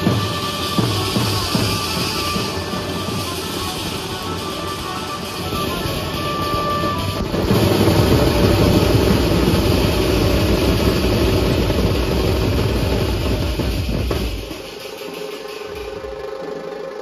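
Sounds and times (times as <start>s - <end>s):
hand cymbals: 0.0s - 17.0s
steel-shelled drums beaten fast: 0.0s - 17.0s.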